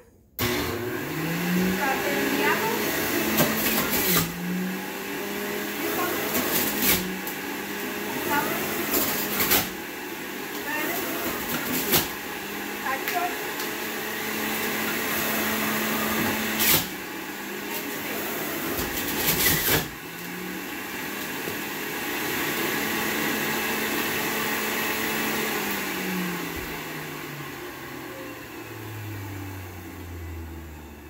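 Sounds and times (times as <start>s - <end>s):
juicer grinding produce: 0.4s - 31.0s
juicer motor humming: 0.4s - 31.0s.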